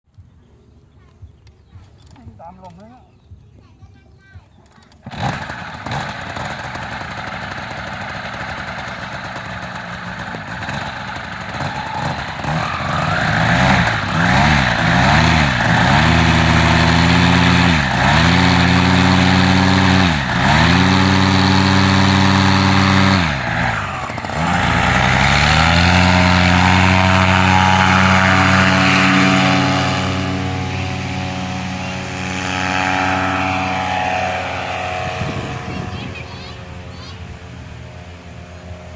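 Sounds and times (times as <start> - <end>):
model airplane engine revving: 4.6 - 38.9.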